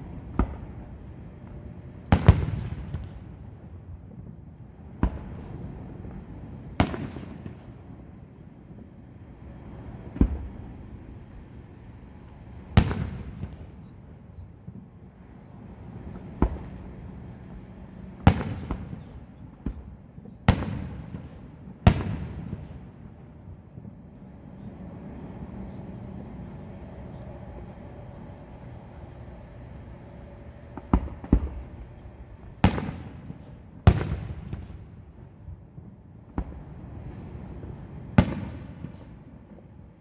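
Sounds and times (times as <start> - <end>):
fireworks bursting with rumbling echo: 0.0 - 40.0.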